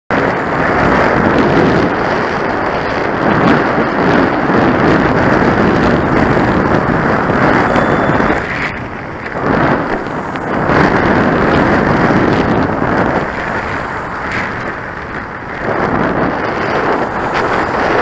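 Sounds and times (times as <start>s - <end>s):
wind buffeting microphone: 0.1s - 18.0s.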